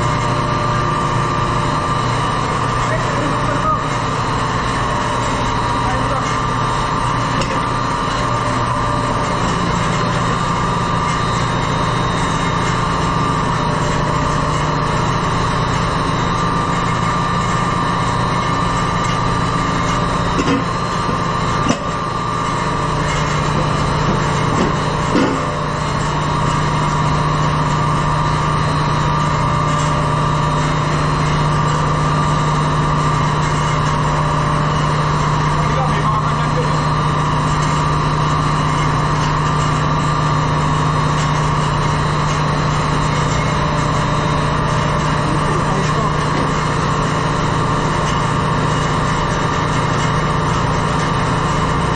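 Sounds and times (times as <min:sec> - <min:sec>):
engine room machinery drone: 0:00.0 - 0:51.9
high machine whines: 0:00.0 - 0:51.9.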